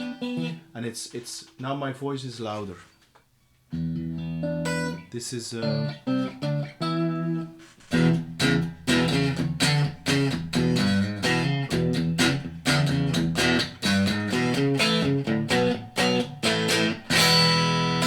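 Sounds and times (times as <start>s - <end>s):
electric guitar picked notes: 0.0s - 0.7s, 3.7s - 18.0s.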